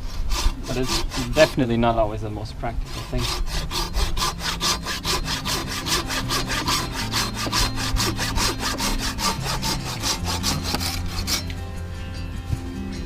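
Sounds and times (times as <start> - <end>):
hand saw cutting wooden branch: 0.0 - 2.0, 2.8 - 11.6.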